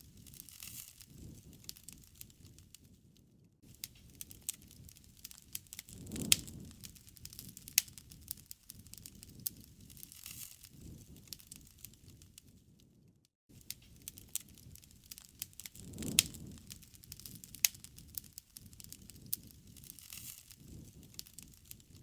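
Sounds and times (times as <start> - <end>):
low rush of flame: 0.0 - 22.0
wood fire crackling and popping: 0.0 - 22.0.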